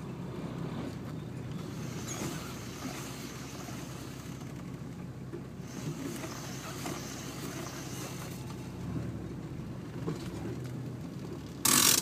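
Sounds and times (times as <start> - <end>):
diesel engine at low revs: 0.0 - 12.0.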